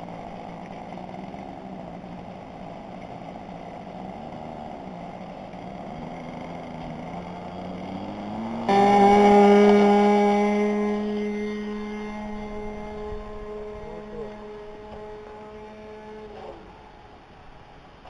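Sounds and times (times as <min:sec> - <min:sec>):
loud steady engine note: 0:00.0 - 0:18.0
model airplane propeller engine: 0:00.0 - 0:18.0.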